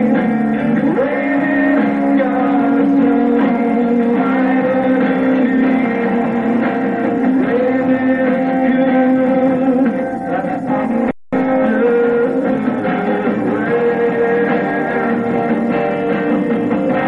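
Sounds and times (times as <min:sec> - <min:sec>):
muffled live band playing: 0:00.0 - 0:17.0.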